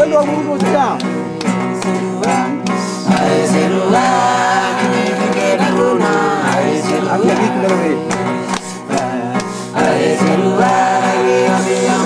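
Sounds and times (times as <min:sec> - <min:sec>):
strummed acoustic guitar: 0:00.0 - 0:12.0
voices singing: 0:00.0 - 0:12.0.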